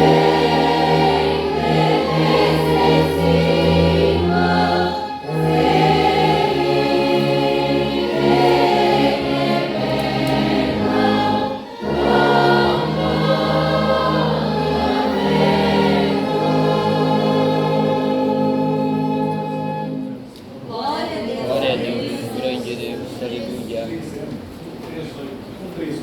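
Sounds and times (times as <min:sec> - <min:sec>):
choir singing a hymn: 0:00.0 - 0:22.7.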